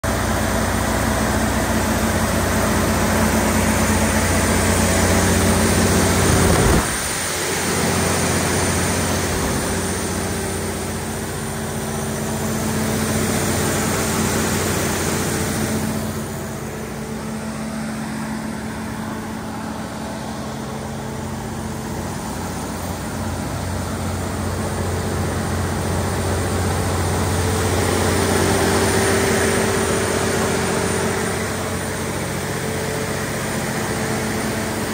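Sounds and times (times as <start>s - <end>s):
diesel generator humming: 0.0s - 34.9s.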